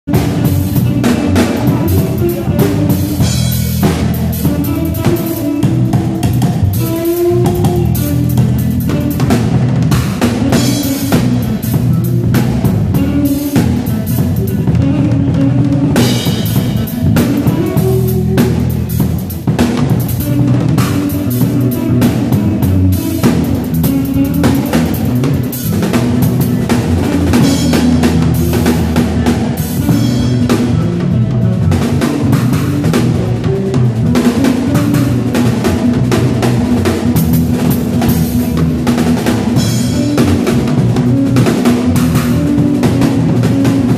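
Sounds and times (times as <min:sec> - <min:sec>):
band playing: 0:00.0 - 0:43.9.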